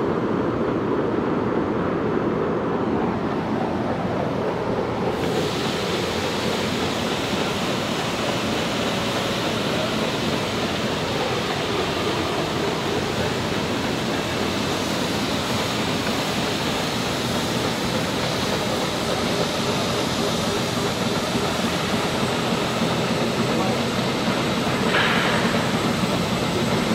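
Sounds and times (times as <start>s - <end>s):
sprayer fan blowing spray mist: 5.0s - 26.9s.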